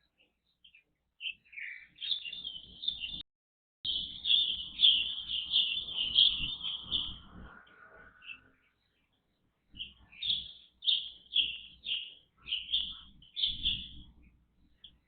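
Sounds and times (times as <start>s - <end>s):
songbirds chirping: 0.0s - 3.2s, 3.9s - 15.0s.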